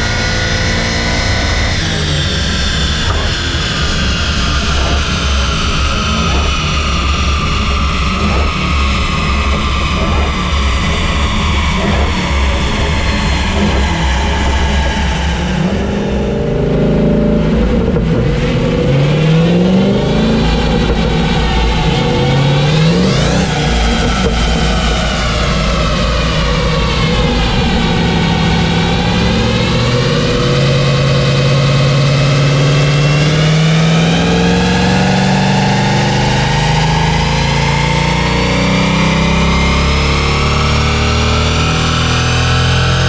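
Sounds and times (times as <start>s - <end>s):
car engine revving under load: 0.0s - 43.0s
wheels spinning on dyno rollers: 0.0s - 43.0s.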